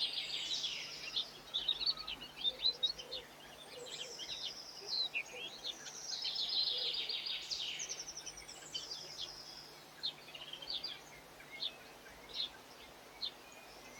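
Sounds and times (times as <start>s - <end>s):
songbirds singing: 0.0s - 13.9s.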